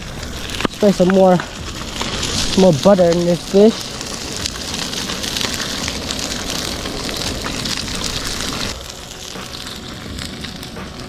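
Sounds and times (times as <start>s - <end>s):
fish sizzling in pan: 0.0s - 11.0s.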